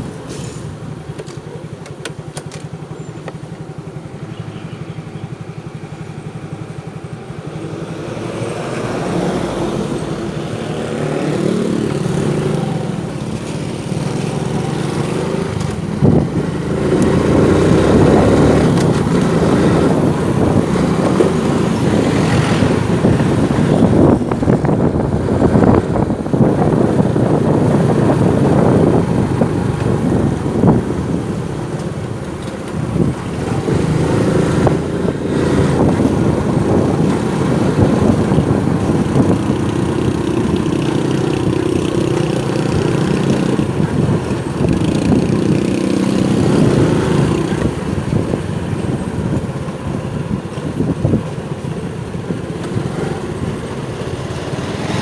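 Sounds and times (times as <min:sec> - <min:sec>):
road and wind rumble: 0:00.0 - 0:55.0
motorcycle engine running: 0:00.9 - 0:55.0.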